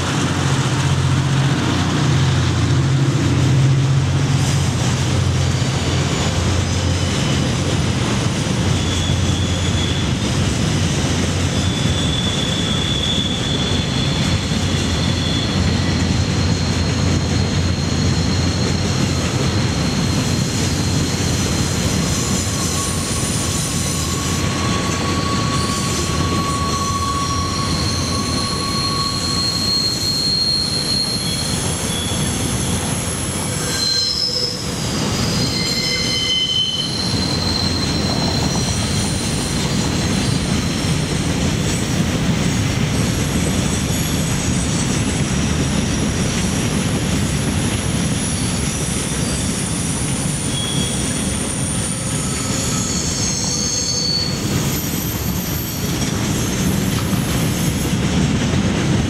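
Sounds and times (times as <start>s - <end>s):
train wheels rumbling on rail: 0.0s - 59.0s
wheel flanges squealing: 0.4s - 58.1s.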